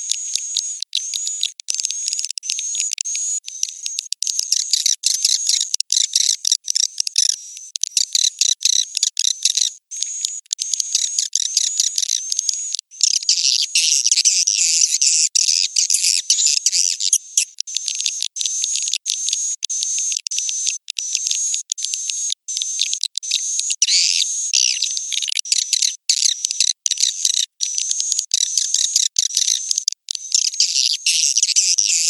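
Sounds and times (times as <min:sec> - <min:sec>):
repeated chirp: 0:00.0 - 0:32.0.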